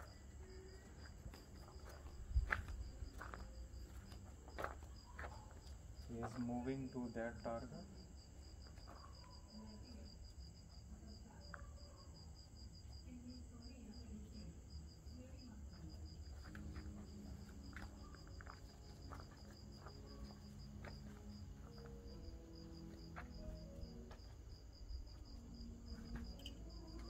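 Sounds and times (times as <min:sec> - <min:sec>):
cricket chirping: 0:00.0 - 0:27.0.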